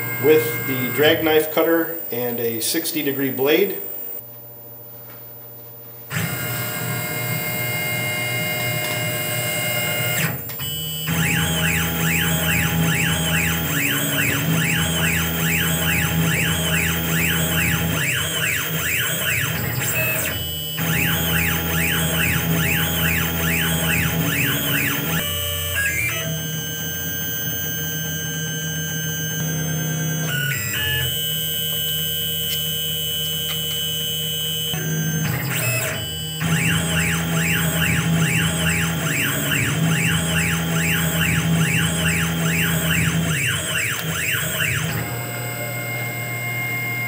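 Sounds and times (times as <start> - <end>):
machine axes whining: 0.0 - 4.3, 6.0 - 47.0.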